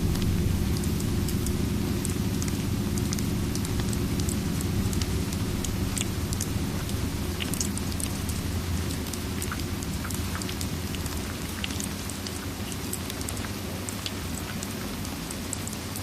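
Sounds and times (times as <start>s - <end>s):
drips: 0.0s - 16.0s
steady rain: 0.0s - 16.0s.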